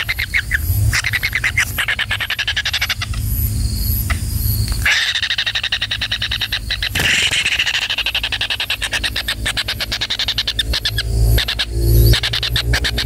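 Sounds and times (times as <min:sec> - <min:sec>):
nestlings buzzy rattling trill: 0:01.0 - 0:12.3.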